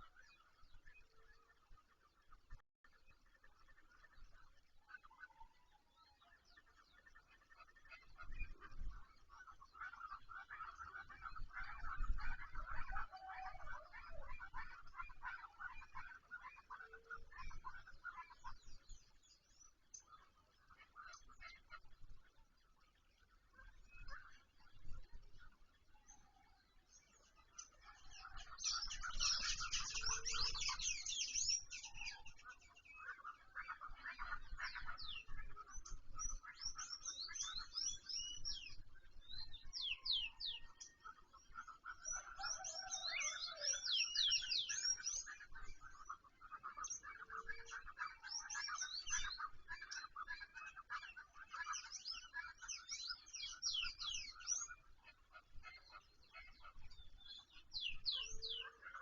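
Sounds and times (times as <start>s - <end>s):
wild birds chirping and trilling: 0.0s - 59.0s.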